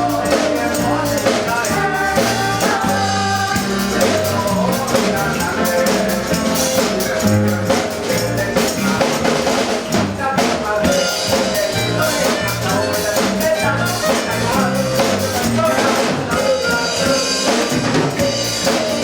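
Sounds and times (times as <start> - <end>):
drum kit: 0.0 - 19.0
live band playing: 0.0 - 19.0.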